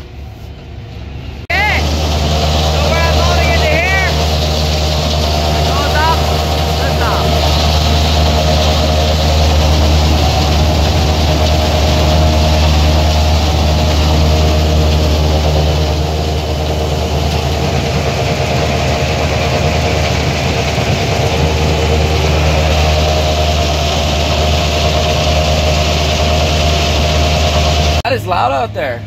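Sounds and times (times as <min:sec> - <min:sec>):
silage blower: 0:01.5 - 0:28.1
diesel tractor running: 0:01.5 - 0:29.0.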